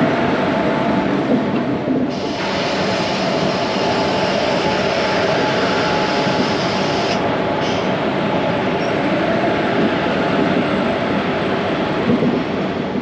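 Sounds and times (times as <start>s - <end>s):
passenger train running: 0.0s - 13.0s.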